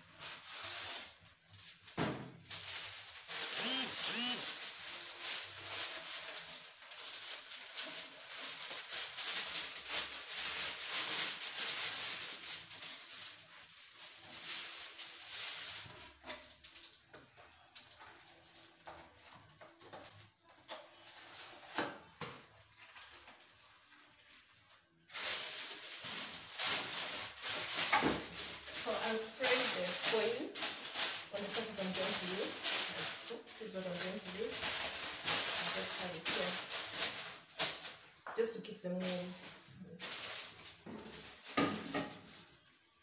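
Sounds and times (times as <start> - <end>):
plastic bag crinkling: 0.0 - 42.7
aluminium foil crackling: 0.0 - 43.0.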